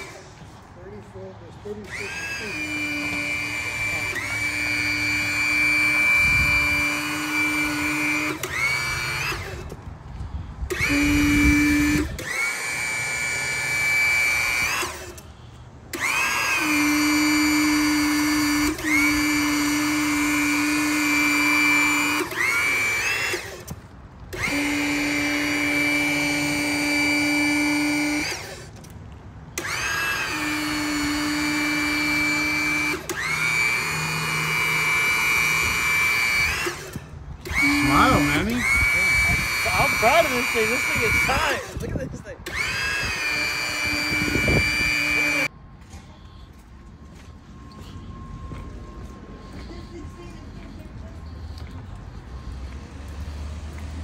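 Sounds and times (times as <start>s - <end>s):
hydraulic power unit whining: 0.0s - 54.0s.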